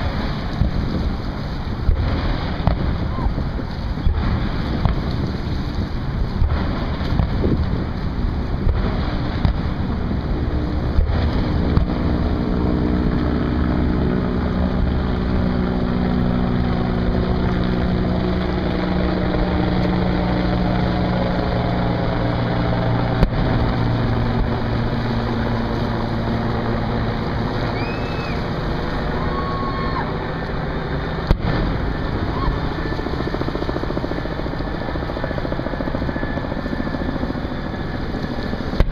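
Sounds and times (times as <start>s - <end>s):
motorboat engine humming: 0.0s - 38.9s
water noise: 0.0s - 38.9s
wind rumbling on microphone: 0.0s - 38.9s.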